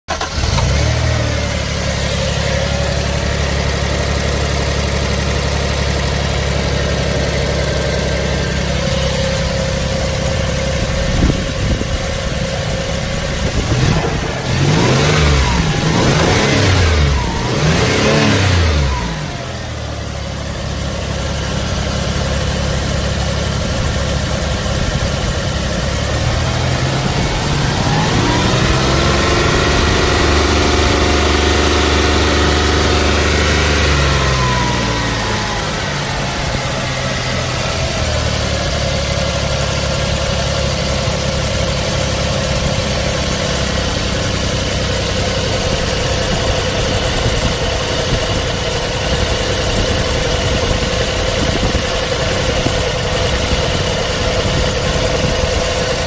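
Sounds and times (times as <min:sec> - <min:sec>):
car engine idling and revving: 0:00.1 - 0:56.0.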